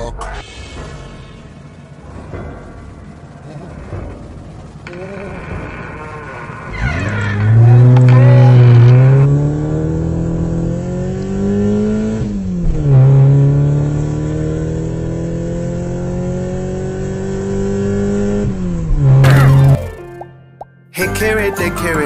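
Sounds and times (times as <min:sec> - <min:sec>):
vehicle engine accelerating: 0:00.7 - 0:20.0.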